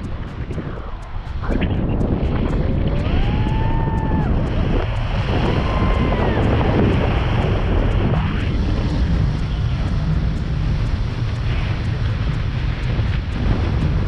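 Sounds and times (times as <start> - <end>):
drawn-out rising pitched tones: 0.0 - 12.0
wind buffeting microphone: 0.0 - 14.0.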